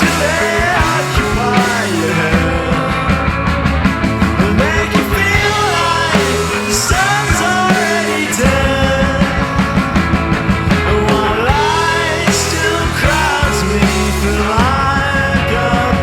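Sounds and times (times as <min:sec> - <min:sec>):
person singing: 0:00.0 - 0:03.6, 0:04.3 - 0:10.1, 0:10.7 - 0:16.0
rock band playing: 0:00.0 - 0:16.0
steady drum beat: 0:00.0 - 0:16.0.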